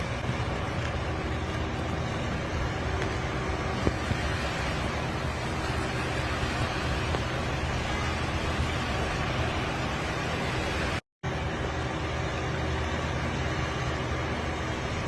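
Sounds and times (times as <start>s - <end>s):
low rushing noise: 0.0s - 15.0s.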